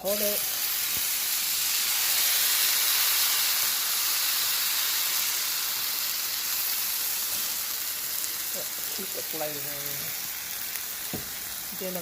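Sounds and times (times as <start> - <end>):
meat sizzling in a hot pan: 0.0 - 12.0.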